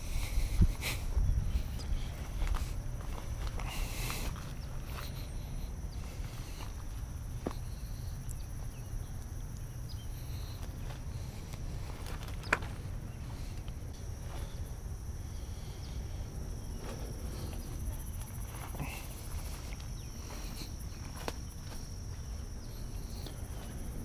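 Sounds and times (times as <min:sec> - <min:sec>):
footsteps on dry ground: 0:00.0 - 0:07.9, 0:10.3 - 0:14.7, 0:16.7 - 0:23.8
insects droning: 0:00.0 - 0:24.0.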